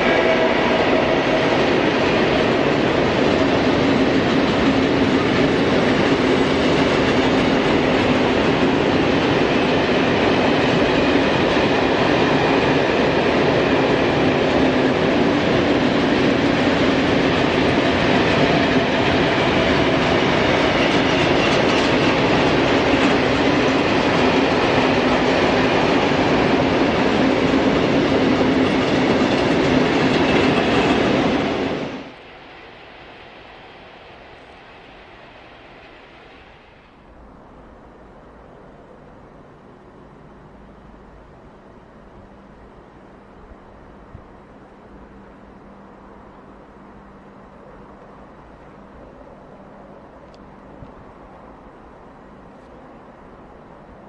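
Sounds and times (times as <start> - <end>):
freight train rolling rumble: 0.0 - 54.0.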